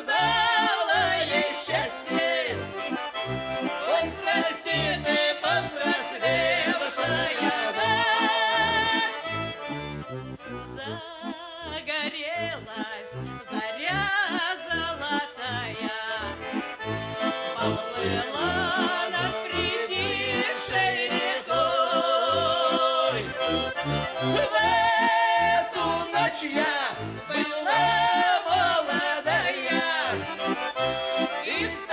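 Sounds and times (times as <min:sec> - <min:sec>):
accordion playing folk melody: 0:00.0 - 0:31.9.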